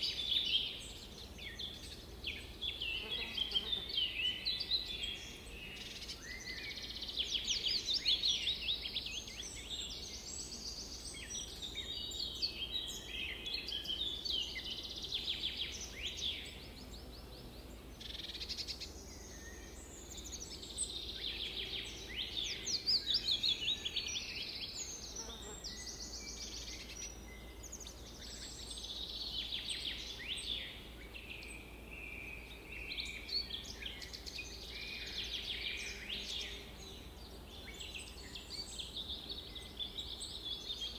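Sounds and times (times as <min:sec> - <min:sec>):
faint steady background hiss: 0:00.0 - 0:40.9
songbirds chirping and singing: 0:00.0 - 0:40.9.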